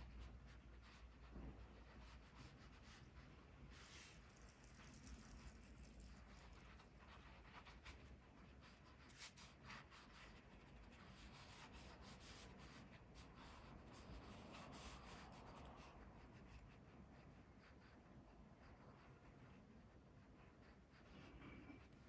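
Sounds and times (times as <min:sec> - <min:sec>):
pencil scratching on paper: 0:00.0 - 0:22.0.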